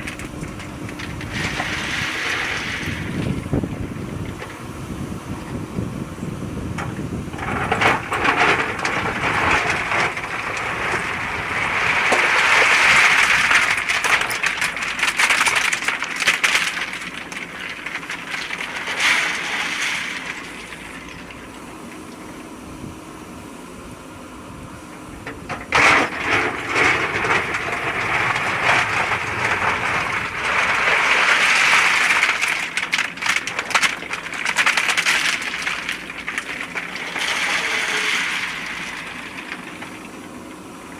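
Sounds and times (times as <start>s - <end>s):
backhoe loader digging earth and stones: 0.0s - 40.9s.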